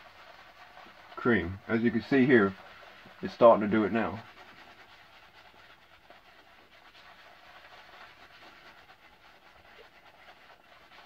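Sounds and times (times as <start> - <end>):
shaving brush swishing lather: 0.0 - 11.0.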